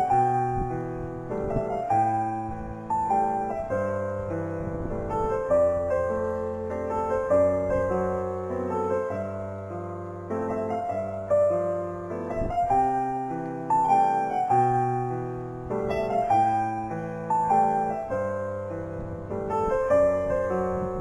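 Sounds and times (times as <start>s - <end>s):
gentle slow piano melody: 0.0s - 21.0s.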